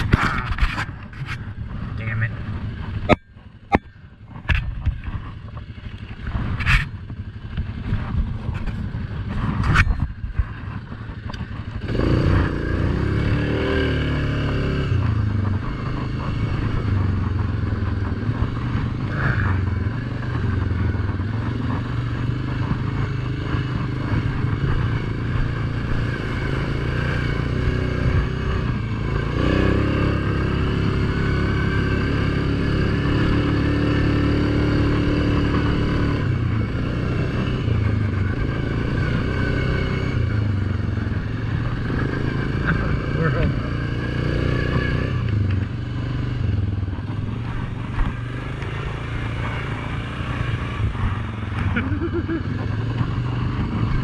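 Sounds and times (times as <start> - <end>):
engine knocks and clatter: 0.0 - 54.0
quad bike engine: 0.0 - 54.0.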